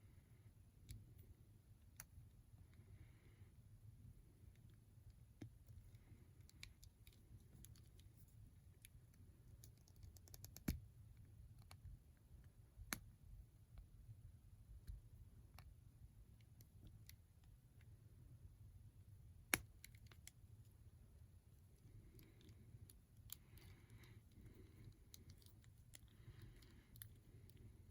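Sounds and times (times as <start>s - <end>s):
low room hum: 0.0s - 27.9s.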